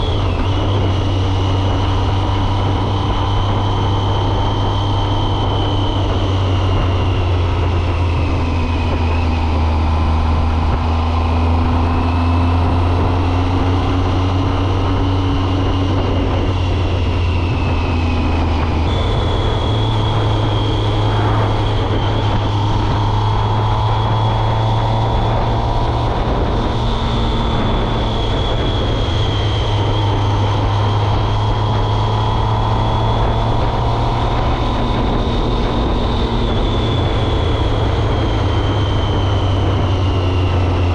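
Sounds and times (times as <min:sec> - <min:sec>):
motorcycle engine at road speed: 0:00.0 - 0:40.9.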